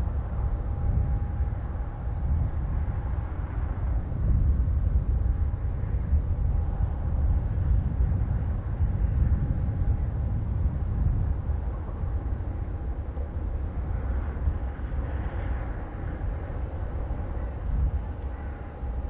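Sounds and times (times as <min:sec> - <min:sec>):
distant jet engines whining: 0:00.0 - 0:19.0
wind buffeting microphone: 0:00.0 - 0:19.0.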